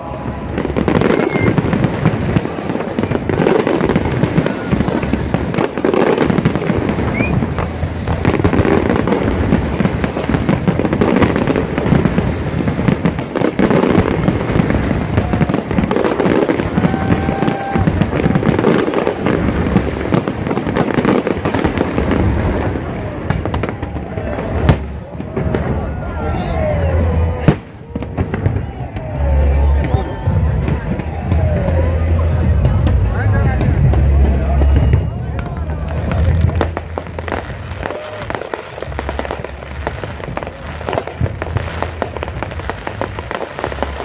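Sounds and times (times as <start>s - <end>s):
fireworks bursting and crackling: 0.0s - 44.0s.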